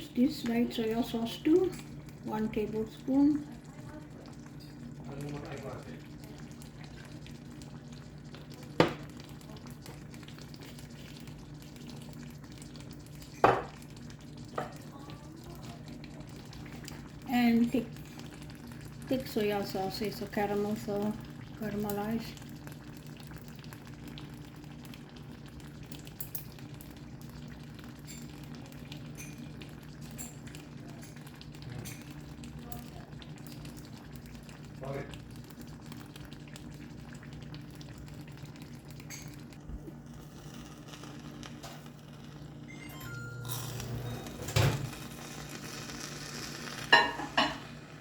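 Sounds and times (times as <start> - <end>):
food sizzling in a pot: 0.0 - 48.0.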